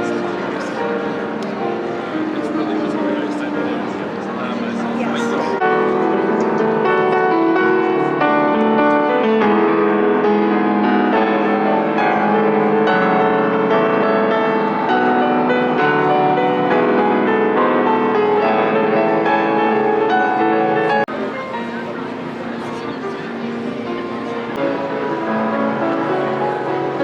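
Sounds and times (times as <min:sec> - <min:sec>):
piano-like keyboard music: 0:00.0 - 0:27.0.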